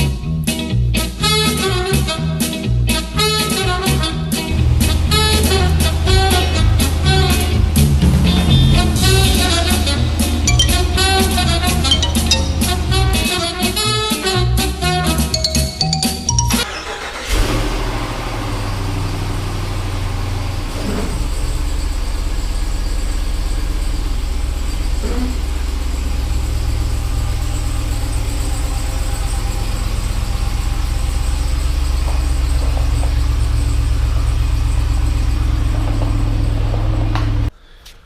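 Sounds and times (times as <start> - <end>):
truck engine idling: 4.3 - 15.6, 16.3 - 37.8.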